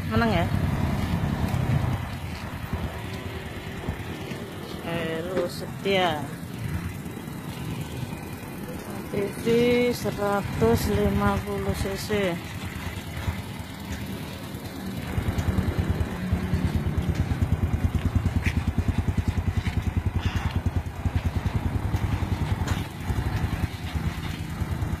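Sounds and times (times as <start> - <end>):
atv engine throbbing: 0.0 - 25.0.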